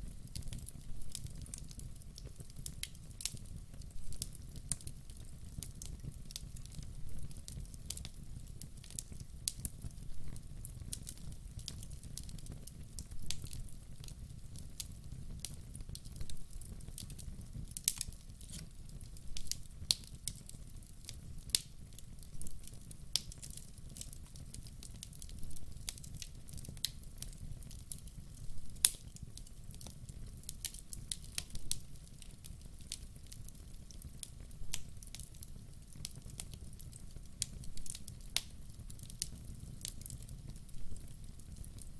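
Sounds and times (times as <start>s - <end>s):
logs crackling and popping: 0.0s - 41.9s.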